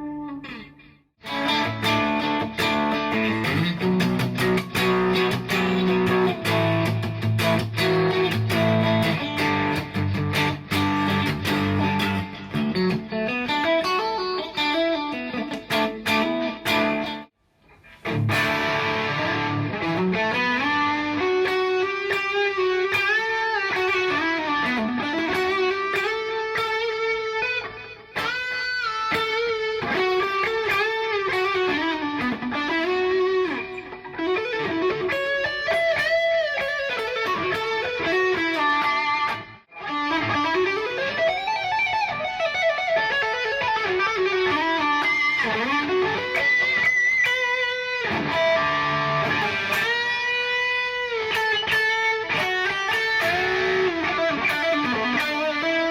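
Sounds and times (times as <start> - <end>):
electric guitar lead melody: 0.0 - 55.9.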